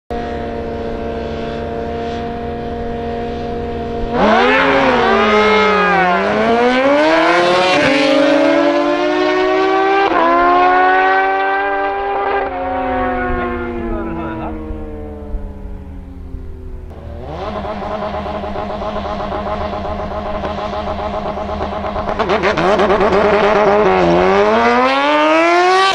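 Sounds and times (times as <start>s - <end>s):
motorcycle engines revving: 0.1s - 25.9s.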